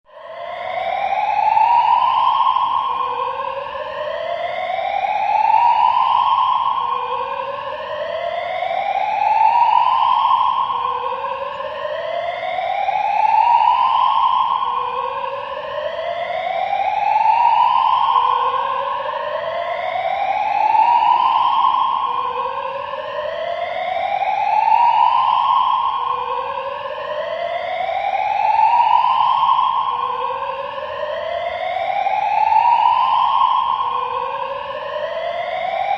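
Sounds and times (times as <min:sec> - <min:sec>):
rising siren-like tone: 0:00.1 - 0:35.9.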